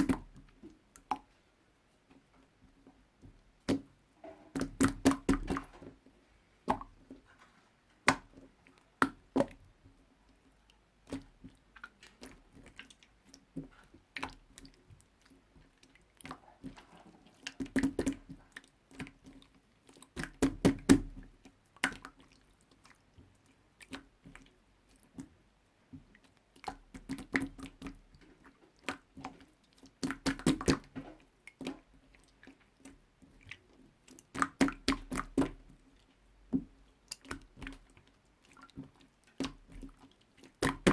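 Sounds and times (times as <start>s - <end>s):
slime squishing with wet pops: 0.0s - 1.4s, 2.1s - 40.9s.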